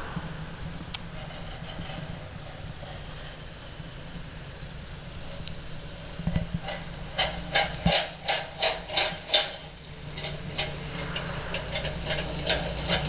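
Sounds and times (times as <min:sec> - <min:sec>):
lawn mower engine idling: 0:00.0 - 0:13.0.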